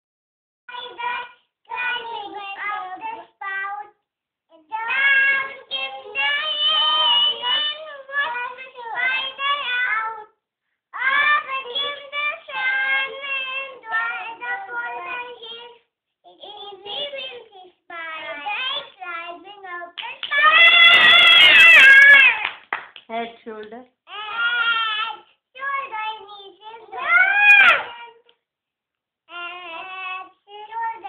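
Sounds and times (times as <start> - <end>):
children singing: 0.7 - 3.9, 4.6 - 10.3, 11.0 - 15.8, 16.5 - 22.4, 24.2 - 28.2, 29.3 - 31.0.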